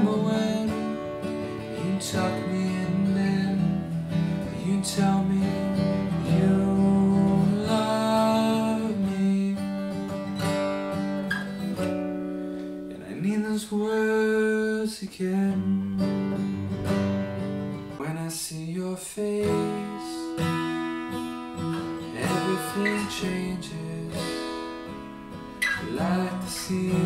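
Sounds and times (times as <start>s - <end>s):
acoustic guitar chords strummed: 0.0s - 27.0s.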